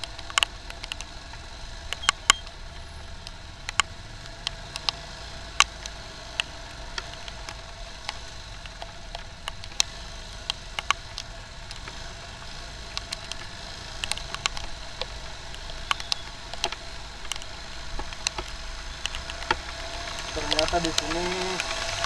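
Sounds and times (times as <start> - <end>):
motorcycle rumble: 0.0 - 22.0
raindrops ticking: 0.0 - 22.0.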